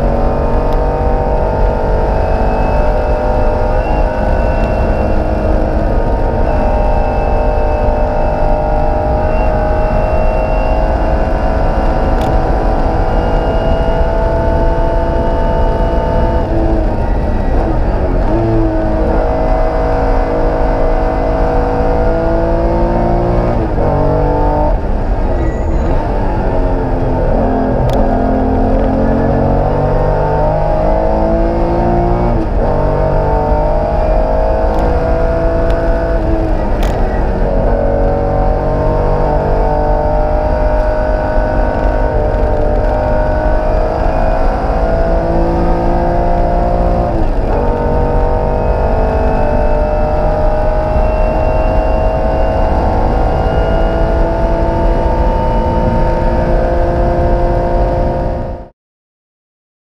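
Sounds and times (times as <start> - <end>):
car engine accelerating: 0.0 - 58.7.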